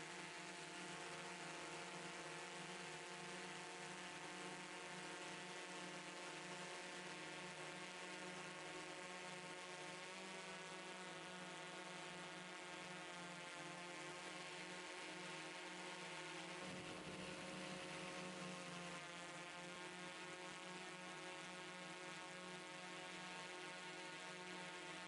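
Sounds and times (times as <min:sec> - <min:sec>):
drone motors and propellers droning: 0:00.1 - 0:25.0.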